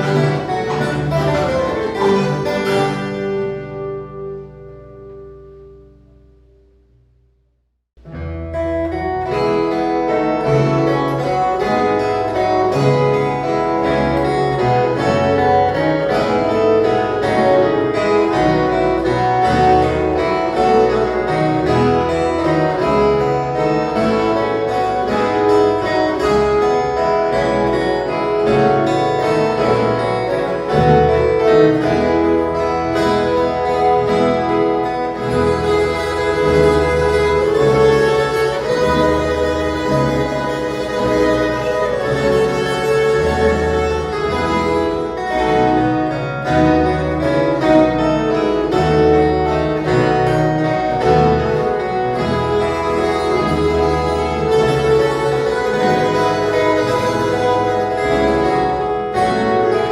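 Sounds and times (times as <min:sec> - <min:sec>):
plucked guitar ensemble: 0:00.0 - 0:06.7, 0:08.0 - 0:59.9.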